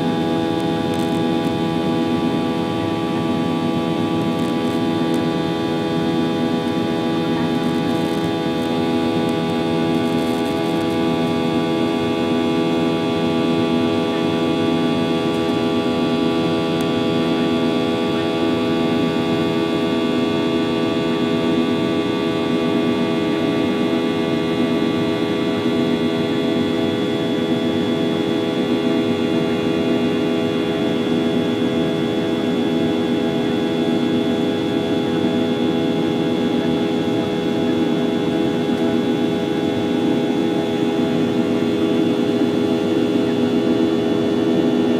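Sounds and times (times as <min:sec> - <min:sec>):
jet engine drone: 0:00.0 - 0:44.9.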